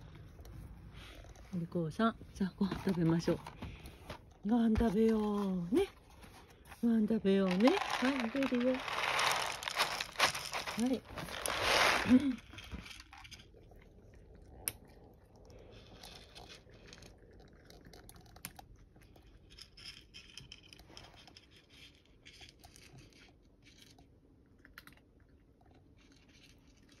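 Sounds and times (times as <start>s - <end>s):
cat crunching dry kibble: 2.6s - 27.0s.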